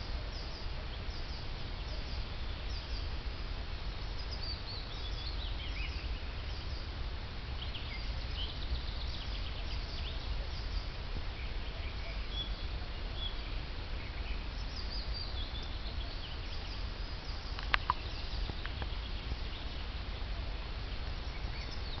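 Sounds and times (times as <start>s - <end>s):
songbirds singing and chirping: 0.0s - 22.0s
steady low rumble: 0.0s - 22.0s.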